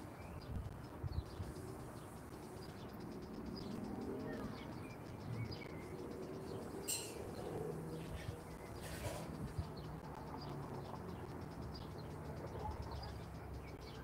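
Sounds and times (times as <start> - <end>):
low steady background noise: 0.0 - 14.0
small birds chirping: 0.0 - 14.0.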